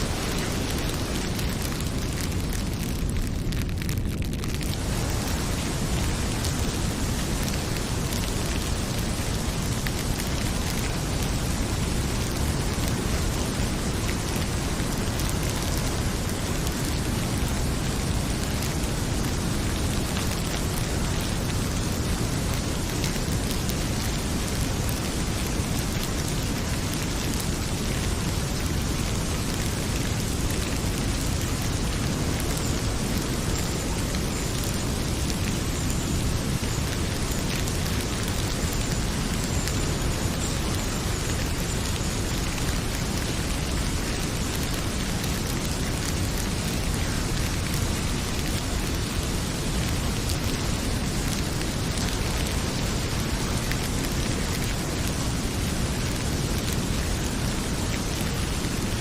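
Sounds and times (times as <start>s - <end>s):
heavy rain pouring: 0.0s - 59.0s
wood fire crackling: 0.0s - 59.0s.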